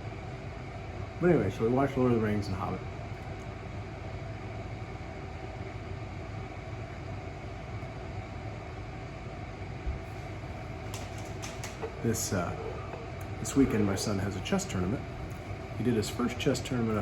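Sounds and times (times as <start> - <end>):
ventilation unit humming: 0.0 - 17.0.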